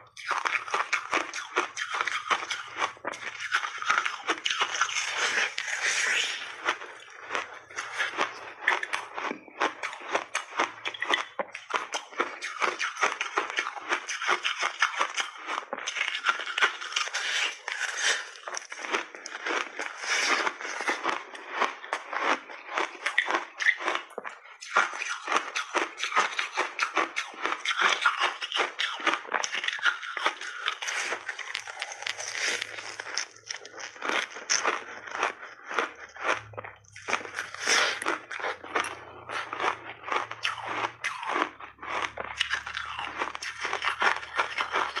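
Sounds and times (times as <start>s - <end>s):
crunching frozen ice: 0.1s - 45.0s.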